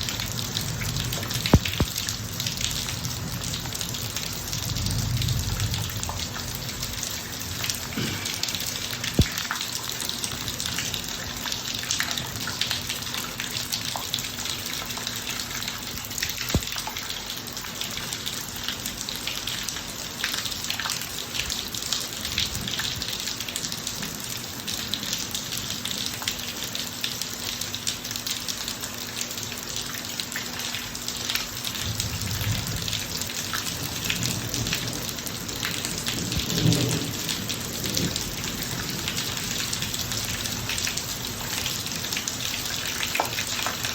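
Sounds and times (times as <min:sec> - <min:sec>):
rain pattering on driveway: 0:00.0 - 0:43.9.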